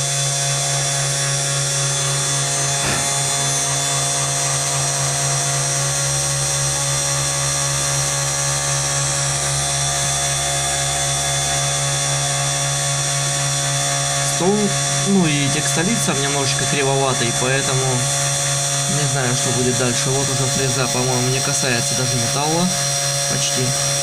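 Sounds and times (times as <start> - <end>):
router spindle whining: 0.0 - 24.0
deep hum: 0.7 - 24.0.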